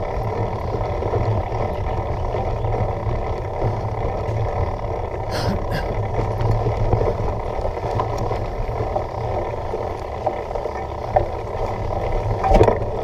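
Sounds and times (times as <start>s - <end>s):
bike rattling on rough ground: 0.0s - 13.0s
wind rumble on microphone: 0.0s - 13.0s.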